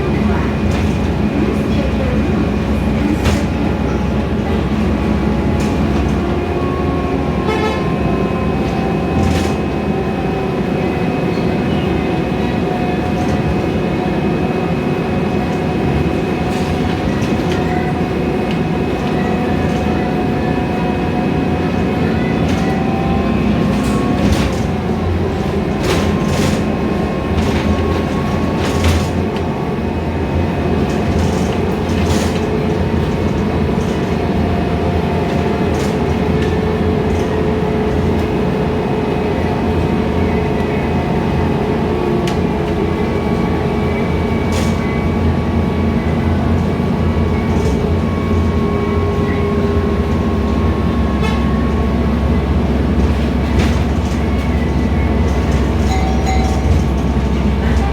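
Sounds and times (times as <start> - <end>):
bus engine and road rumble: 0.0 - 57.9
clicks and rattles from bus body: 0.0 - 57.9
engine whine: 0.0 - 57.9.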